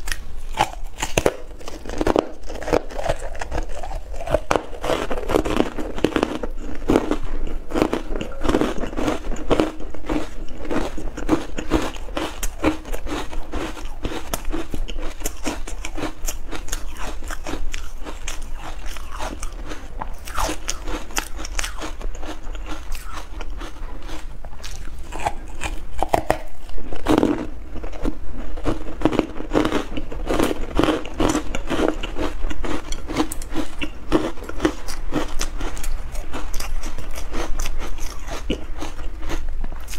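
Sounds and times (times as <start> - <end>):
ice cubes crunching: 0.0 - 39.9.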